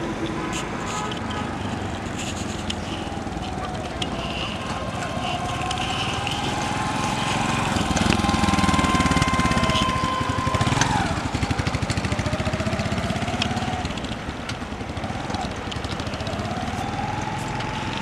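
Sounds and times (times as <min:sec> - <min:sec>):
motorcycle engine passing by: 0:01.4 - 0:18.0.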